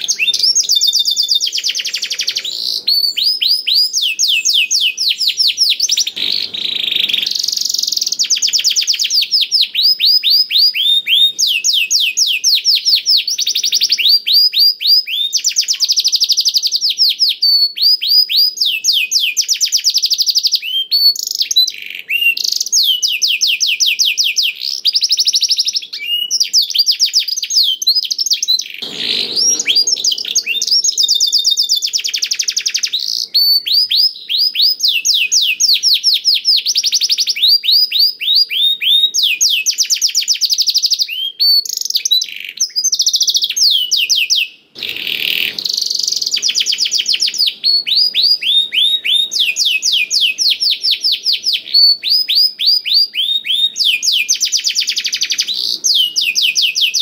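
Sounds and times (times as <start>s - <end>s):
canary singing rapid trills: 0.0s - 57.0s.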